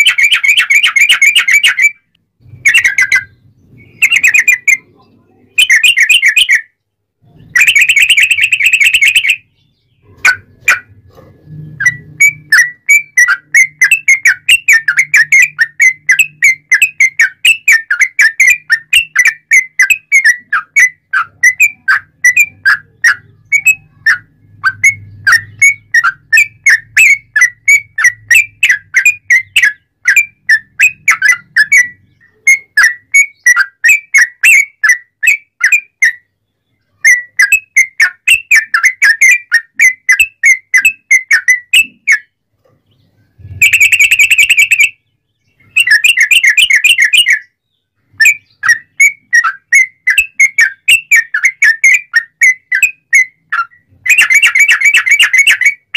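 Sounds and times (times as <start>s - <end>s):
bulbul singing: 0.0s - 55.9s.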